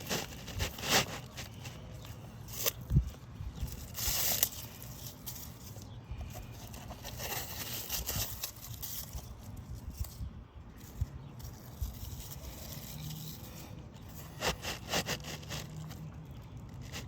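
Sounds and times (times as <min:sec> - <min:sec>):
shingles scraping and tearing: 0:00.0 - 0:10.2, 0:11.5 - 0:17.0.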